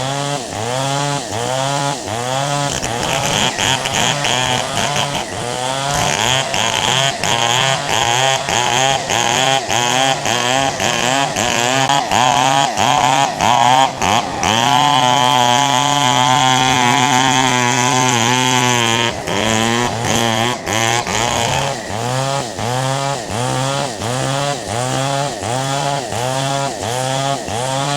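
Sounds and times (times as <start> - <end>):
chainsaw revving: 0.0 - 27.9.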